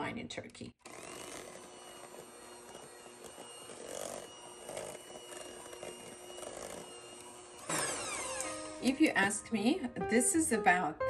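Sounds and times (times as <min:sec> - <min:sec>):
electric hand mixer whine: 0:00.8 - 0:09.8.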